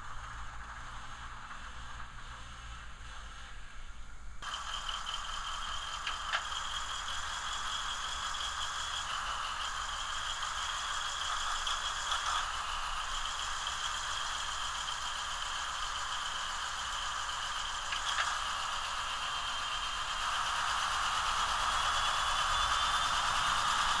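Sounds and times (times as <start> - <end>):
tinny diesel engine through small speaker: 0.0 - 24.0.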